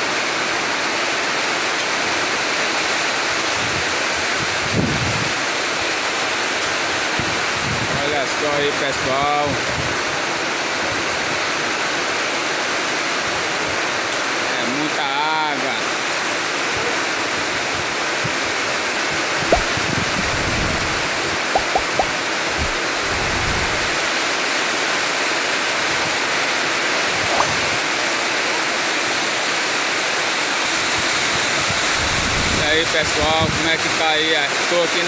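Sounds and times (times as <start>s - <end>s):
heavy rain on cobblestones: 0.0s - 21.3s, 22.2s - 35.0s.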